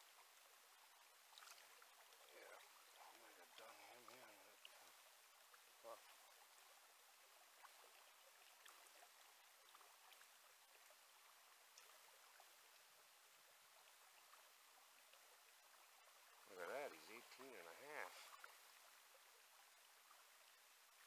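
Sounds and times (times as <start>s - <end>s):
faint river water hiss: 0.0s - 21.0s
faint small ticks: 0.0s - 21.0s.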